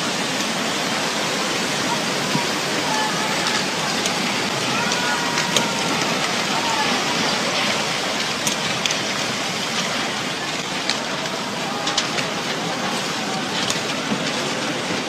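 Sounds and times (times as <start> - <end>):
loud rushing noise: 0.0 - 15.0.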